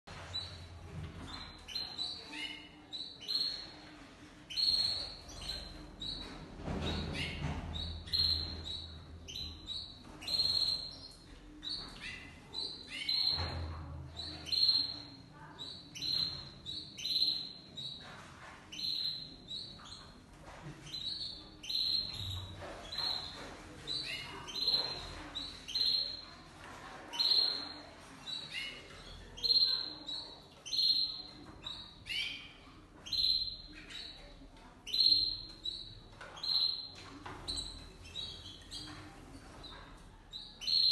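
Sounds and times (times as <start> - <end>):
canaries chirping: 0.0 - 40.9.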